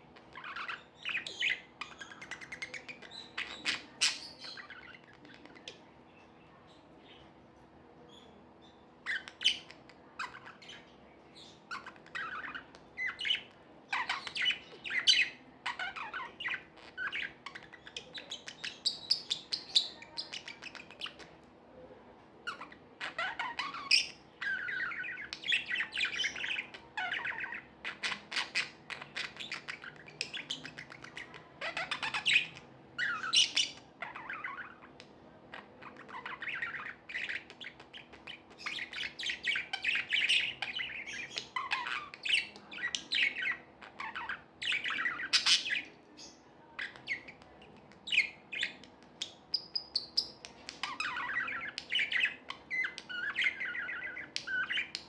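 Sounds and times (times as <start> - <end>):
budgerigars chirping and warbling: 0.0 - 7.3, 8.0 - 21.5, 22.4 - 55.0.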